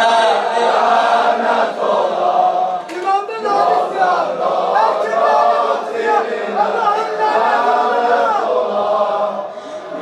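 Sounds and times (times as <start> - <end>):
group singing a lament: 0.0 - 10.0.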